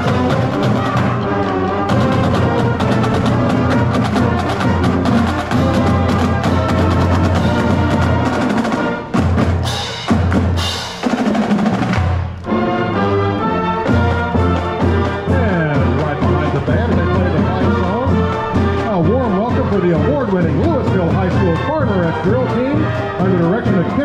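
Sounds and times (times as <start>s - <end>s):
snare and bass drums: 0.0s - 12.4s, 13.8s - 24.0s
low brass notes: 0.0s - 24.0s
marching band playing: 0.0s - 24.0s.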